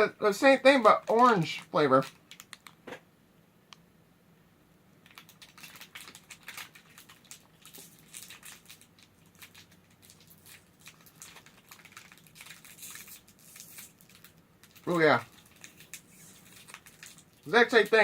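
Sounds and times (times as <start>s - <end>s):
plastic wrapper crinkling: 0.6s - 2.8s, 5.0s - 18.0s.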